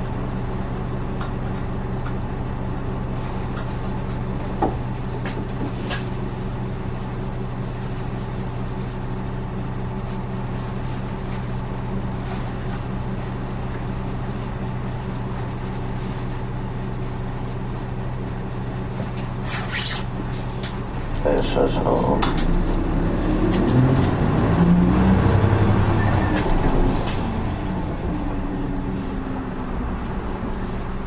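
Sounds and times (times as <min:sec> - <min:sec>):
bus diesel engine humming: 0:00.0 - 0:31.0.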